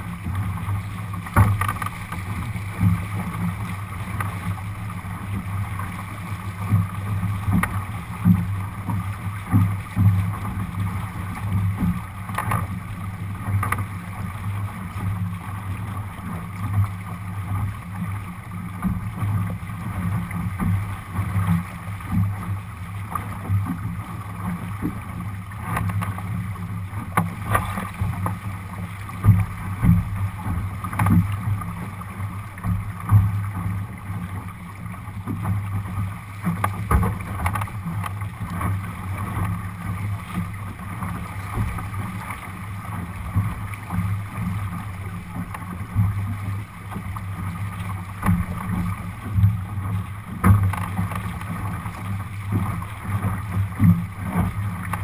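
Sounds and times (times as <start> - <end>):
water rushing along a boat hull: 0.0 - 55.0
waves slapping hull: 0.0 - 55.0.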